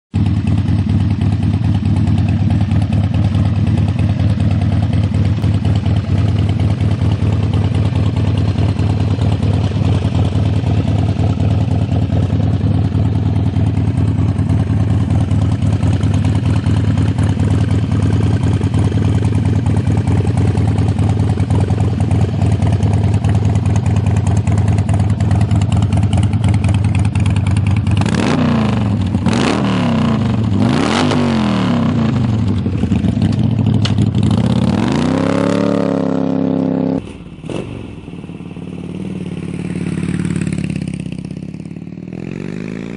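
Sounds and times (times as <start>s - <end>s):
motorcycle engine idling: 0.2s - 42.9s
motorcycle engine revving: 0.2s - 42.9s.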